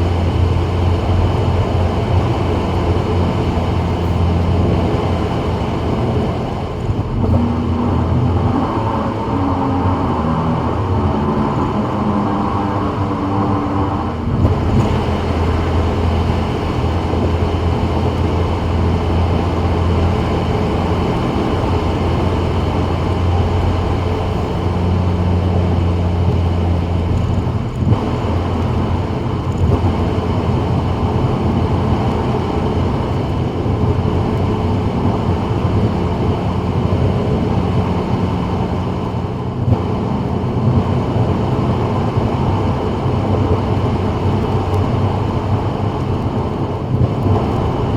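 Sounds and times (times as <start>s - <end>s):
low engine drone: 0.0s - 47.9s.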